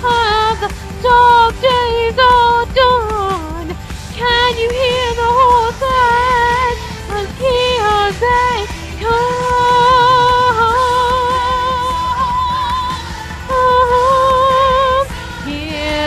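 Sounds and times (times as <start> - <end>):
pop band accompaniment: 0.0 - 16.0
singer holding wavering notes: 0.0 - 16.0.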